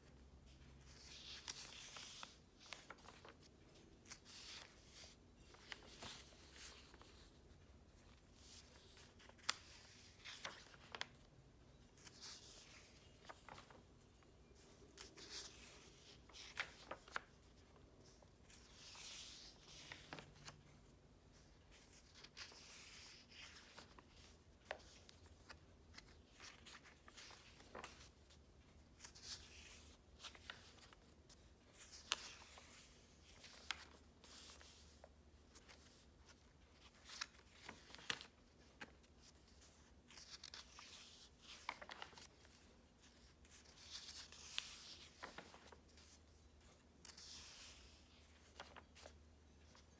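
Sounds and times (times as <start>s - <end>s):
pages turning: 0.6s - 49.9s.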